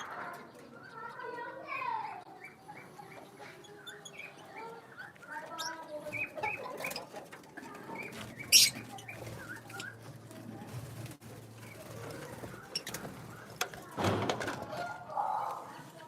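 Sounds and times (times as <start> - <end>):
birds and poultry calling: 0.0 - 16.0.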